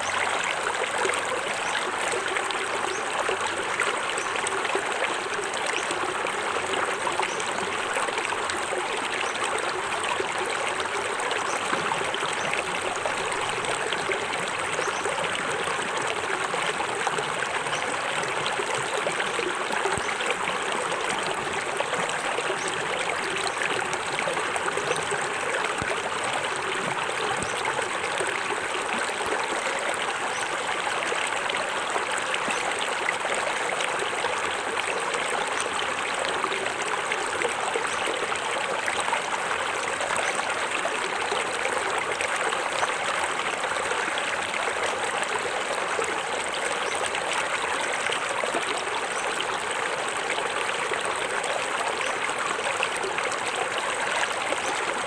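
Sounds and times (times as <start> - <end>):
small waterfall splashing: 0.0 - 55.0.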